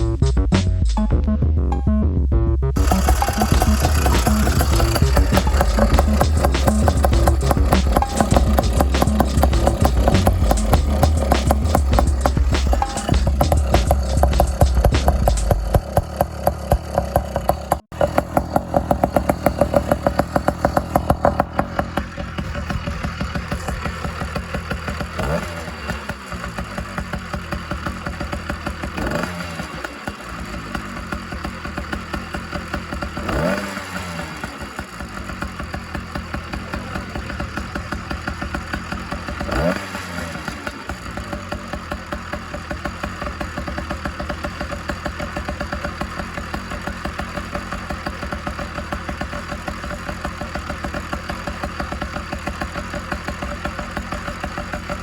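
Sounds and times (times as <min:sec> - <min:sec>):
two-stroke engine running: 0:02.8 - 0:55.0.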